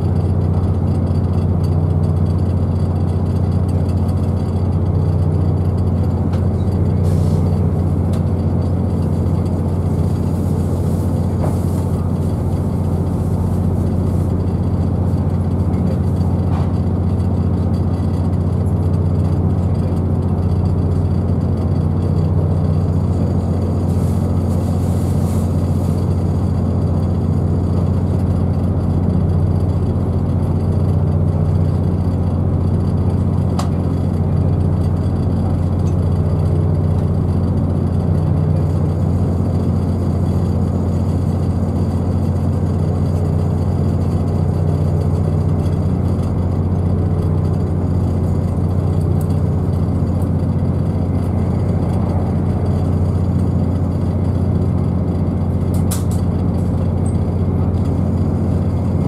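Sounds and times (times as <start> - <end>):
train diesel engine drone: 0.0 - 59.0
train wheels rumbling on track: 0.0 - 59.0.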